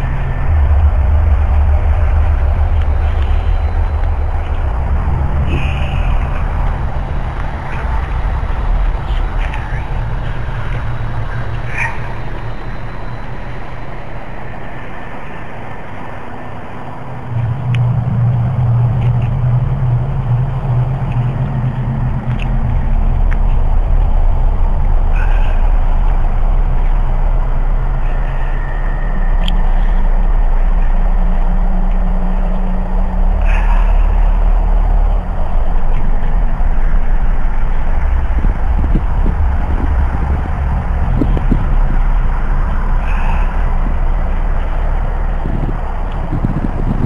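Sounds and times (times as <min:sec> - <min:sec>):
low rumbling drone from sky: 0:00.0 - 0:47.0
steady hum: 0:00.0 - 0:47.0.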